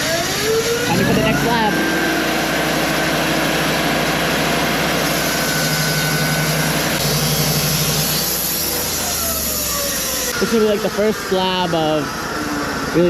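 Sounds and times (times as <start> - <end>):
sawmill engine under load: 0.0 - 13.0.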